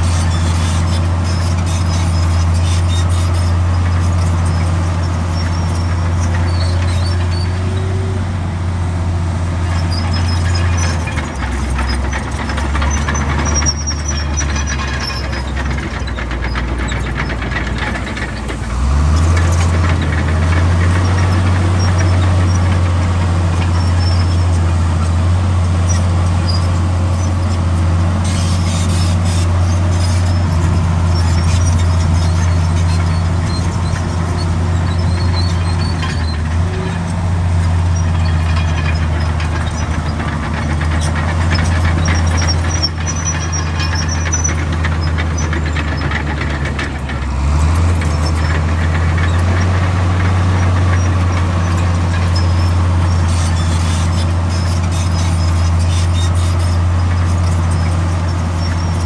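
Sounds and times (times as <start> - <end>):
heavy diesel engine working: 0.0 - 59.0.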